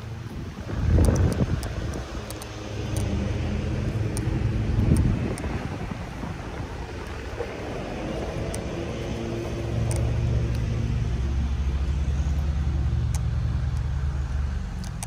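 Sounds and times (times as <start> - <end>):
car engine hum: 0.0 - 15.0
tyres rumbling on uneven ground: 0.0 - 15.0.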